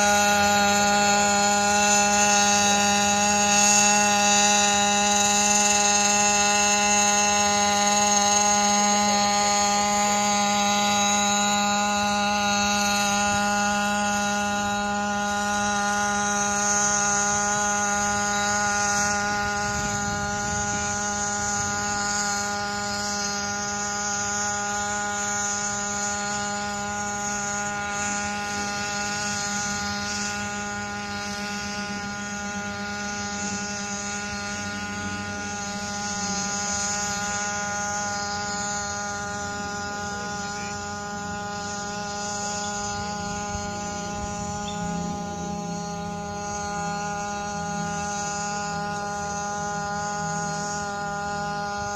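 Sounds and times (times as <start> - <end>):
quadcopter droning: 0.0 - 51.9.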